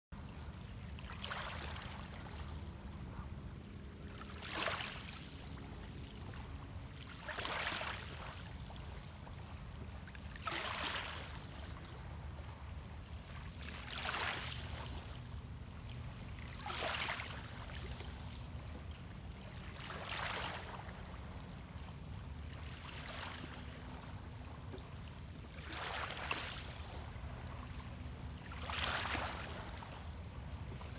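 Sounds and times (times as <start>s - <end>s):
small waves lapping shoreline: 0.2s - 30.9s.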